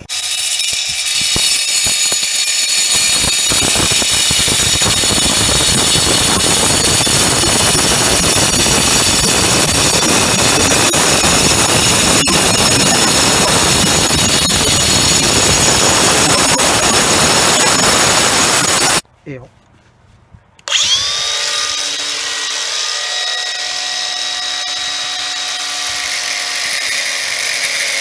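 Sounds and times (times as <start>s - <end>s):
power cutter grinding stone: 0.0s - 19.0s, 20.7s - 28.0s.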